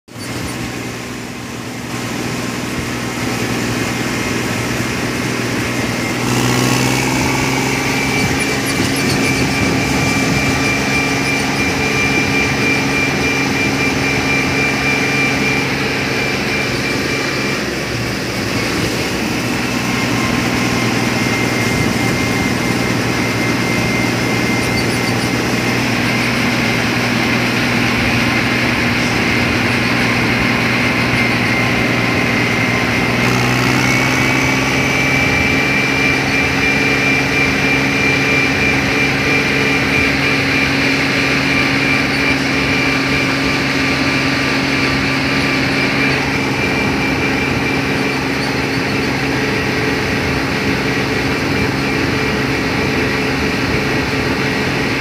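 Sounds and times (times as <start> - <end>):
thin high whine: 0.1 - 55.0
tractor diesel engine revving: 0.1 - 55.0.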